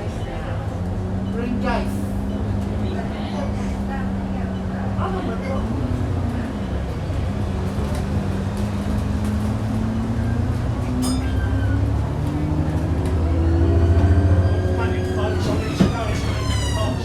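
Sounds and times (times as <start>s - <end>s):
bus engine whine: 0.0s - 17.0s.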